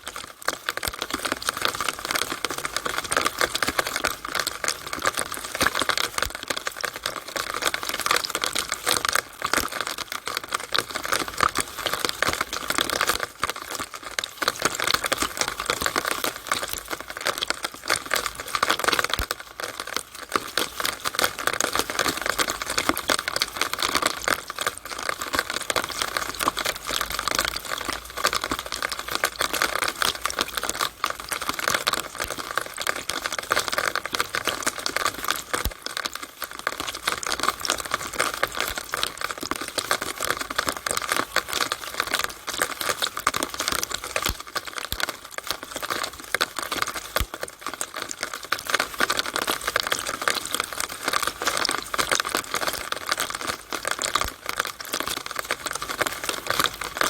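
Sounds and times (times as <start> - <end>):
rainwater splashing from downspout: 0.0 - 57.0.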